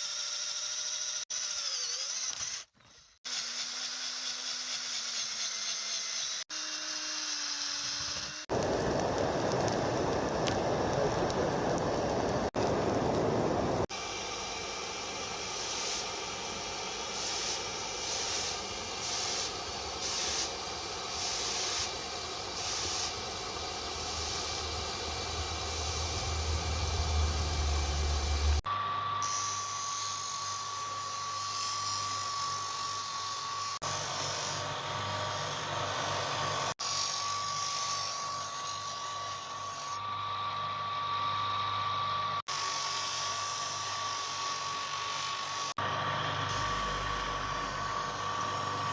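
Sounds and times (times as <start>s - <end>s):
electric grinder on steel: 0.0s - 9.8s, 13.9s - 48.9s.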